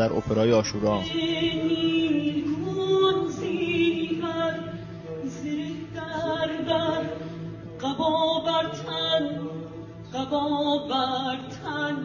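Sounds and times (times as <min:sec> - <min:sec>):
choir and orchestra: 0:00.3 - 0:12.0
woman singing: 0:01.0 - 0:12.0.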